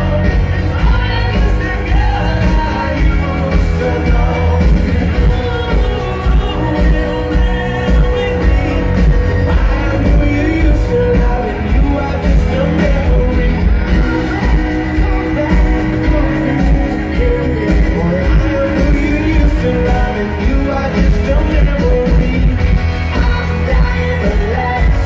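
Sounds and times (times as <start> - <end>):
live band music with singing: 0.0 - 25.0.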